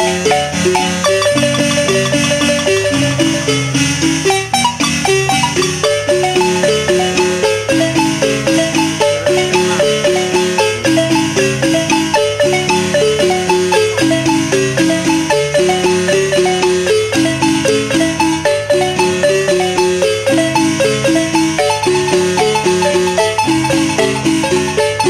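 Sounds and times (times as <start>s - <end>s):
marimba played with mallets: 0.0s - 25.0s.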